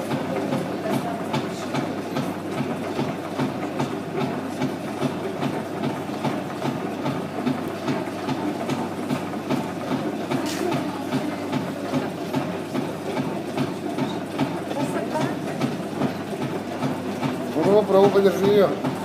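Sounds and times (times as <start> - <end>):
potter's wheel humming: 0.0 - 19.0
rhythmic knocking: 0.0 - 19.0.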